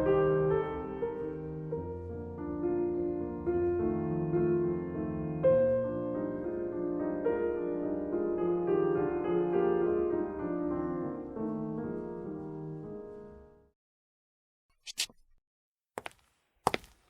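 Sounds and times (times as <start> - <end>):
instrumental piano music: 0.0 - 13.7.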